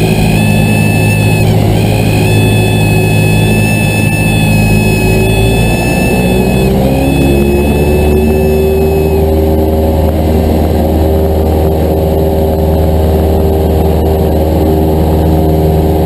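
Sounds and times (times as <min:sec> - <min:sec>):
airplane engine and propeller: 0:00.0 - 0:16.0
high whine: 0:00.0 - 0:16.0.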